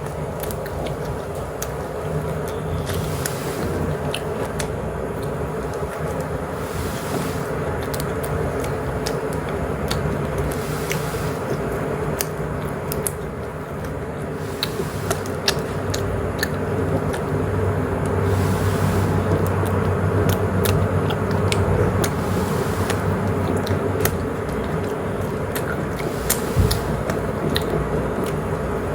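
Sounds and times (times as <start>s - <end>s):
close chewing with mouth clicks: 0.0s - 28.9s
low background hum: 0.0s - 28.9s.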